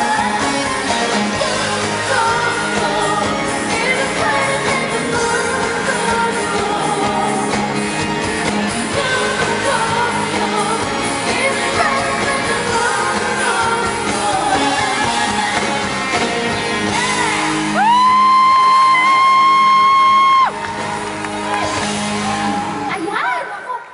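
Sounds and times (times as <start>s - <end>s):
woman singing: 0.0s - 19.2s
live pop band: 0.0s - 23.9s.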